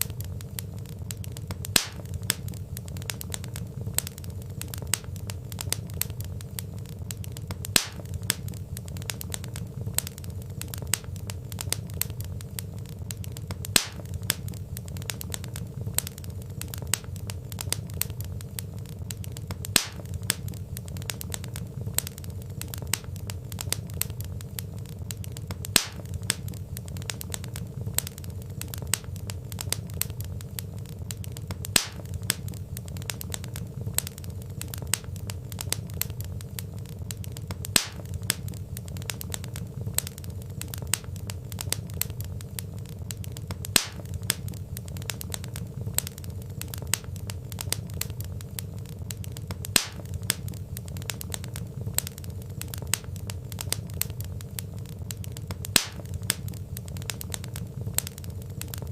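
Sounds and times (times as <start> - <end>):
wood fire crackling in a fireplace: 0.0 - 58.9.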